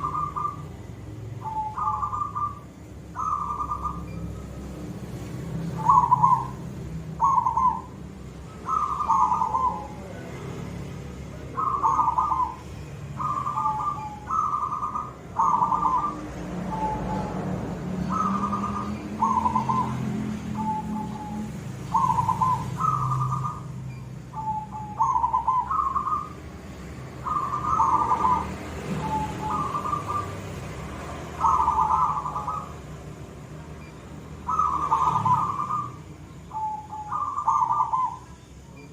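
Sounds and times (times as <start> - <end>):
dove cooing: 0.0 - 4.8, 5.5 - 10.5, 11.3 - 38.9.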